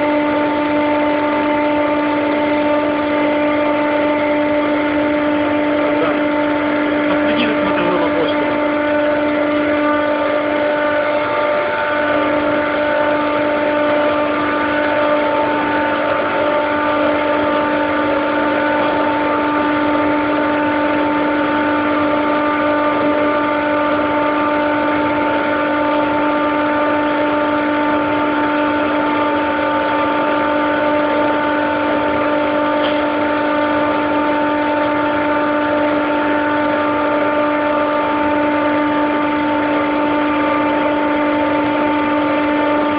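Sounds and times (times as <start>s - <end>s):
chiller compressor drone: 0.0s - 42.9s.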